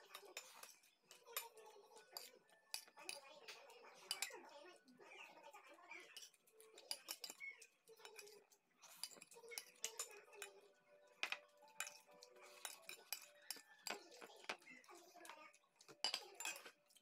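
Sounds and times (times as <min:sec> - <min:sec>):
fingers clinking on ceramic plate: 0:00.0 - 0:04.4, 0:06.1 - 0:10.6, 0:11.2 - 0:17.0.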